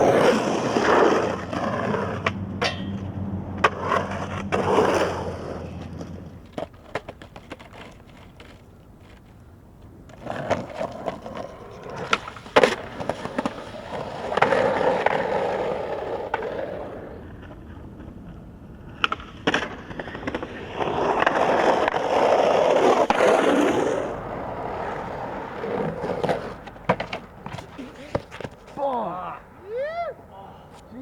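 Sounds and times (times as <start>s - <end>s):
skateboard clacks: 0.0s - 30.1s
skateboard wheels rumbling: 0.0s - 31.0s.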